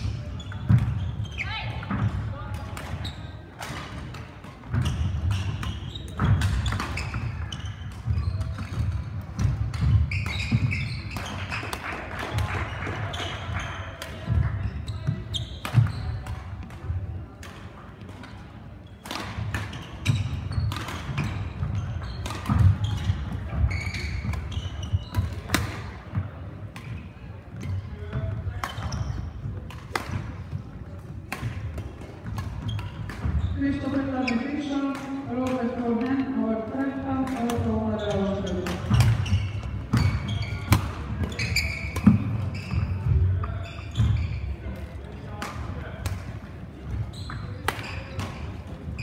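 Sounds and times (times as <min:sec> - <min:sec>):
rackets striking shuttlecock: 0:01.9 - 0:12.5, 0:15.0 - 0:27.8, 0:28.6 - 0:34.1, 0:34.8 - 0:36.2, 0:37.2 - 0:37.8, 0:38.5 - 0:44.1, 0:44.8 - 0:48.8.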